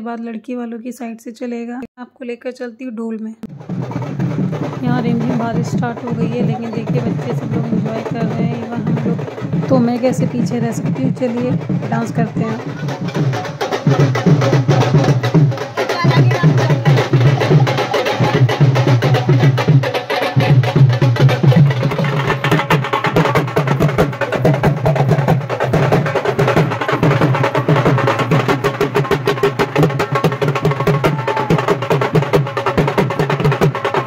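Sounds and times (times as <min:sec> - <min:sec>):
drum fast steady beat: 0:03.4 - 0:34.0.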